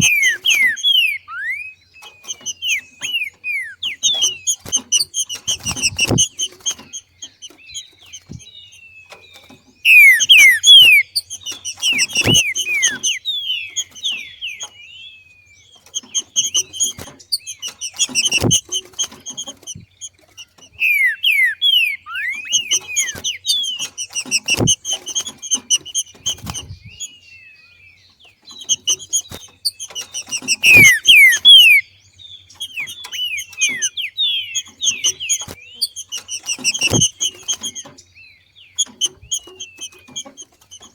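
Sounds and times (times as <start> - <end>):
bird sliding chirps: 0.0 - 27.2, 28.2 - 40.9.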